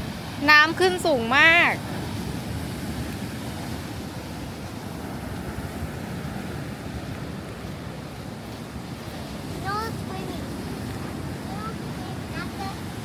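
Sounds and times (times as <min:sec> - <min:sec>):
rough surf washing: 0:00.0 - 0:13.0
wind buffeting microphone: 0:00.0 - 0:13.0.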